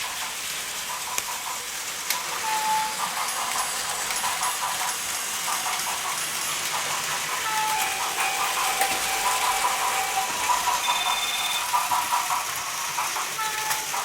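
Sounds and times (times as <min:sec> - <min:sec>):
toy train motors whirring: 0:00.0 - 0:14.0.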